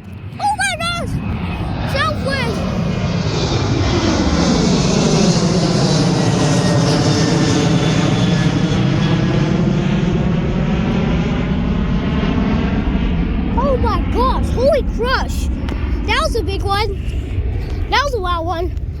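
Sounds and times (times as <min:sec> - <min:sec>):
jet airliner passing overhead: 0:00.0 - 0:19.0.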